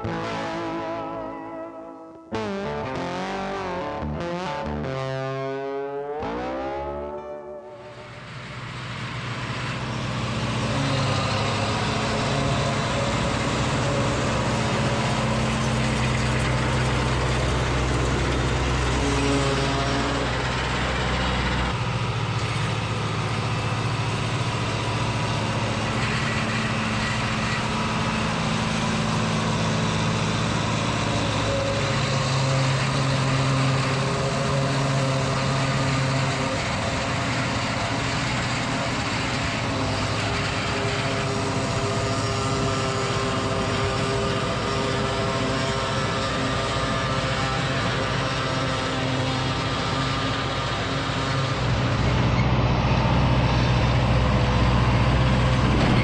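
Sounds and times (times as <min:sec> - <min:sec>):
tractor engine running: 0:07.1 - 0:56.0.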